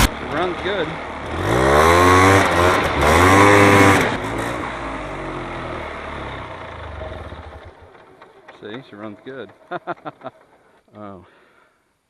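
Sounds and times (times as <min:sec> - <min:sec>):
engine revving and idling: 0:00.0 - 0:09.8.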